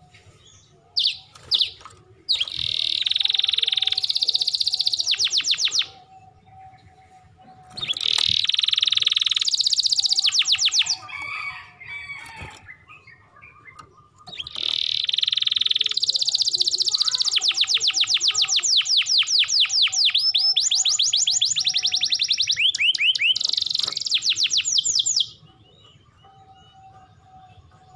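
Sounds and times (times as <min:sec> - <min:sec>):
canary singing trills: 0:00.0 - 0:27.9.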